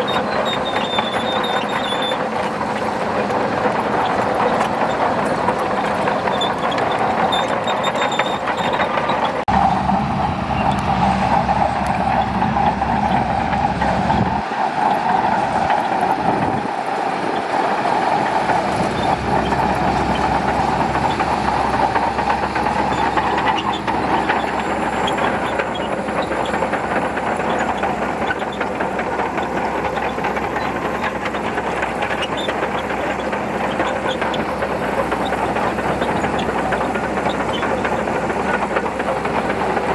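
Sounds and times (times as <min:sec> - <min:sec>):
bulldozer diesel engine running: 0:00.0 - 0:39.9
steel tracks clanking: 0:00.0 - 0:39.9.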